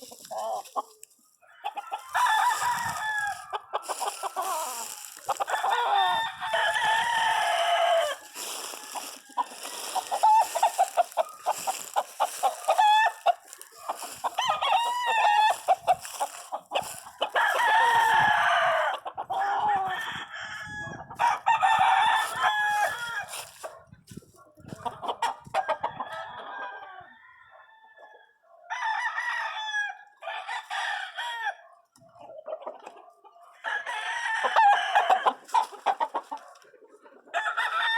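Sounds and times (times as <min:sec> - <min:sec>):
roosters crowing: 0:00.0 - 0:23.8, 0:24.8 - 0:31.6, 0:33.5 - 0:36.6, 0:37.3 - 0:37.9
hens clucking: 0:00.0 - 0:26.3, 0:32.0 - 0:33.6, 0:34.4 - 0:37.9.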